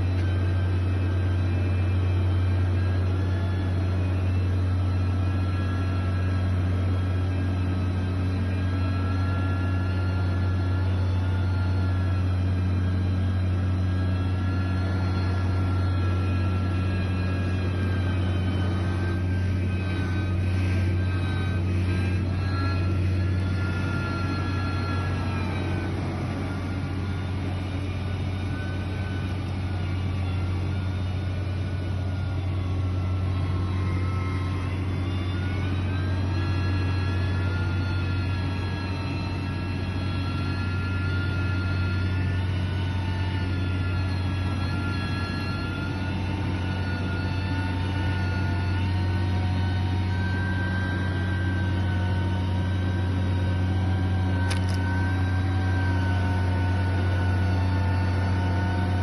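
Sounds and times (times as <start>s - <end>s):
diesel construction machine drone: 0.0s - 59.0s
high whine: 0.0s - 59.0s.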